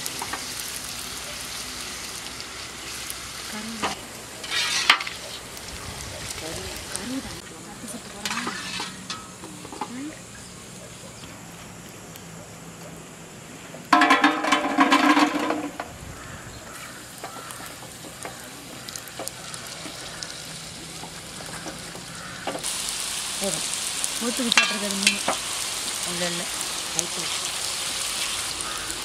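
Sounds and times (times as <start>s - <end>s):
food sizzling in hot oil: 0.0s - 12.2s, 13.0s - 29.0s
oil crackles: 0.0s - 13.1s, 13.7s - 29.0s.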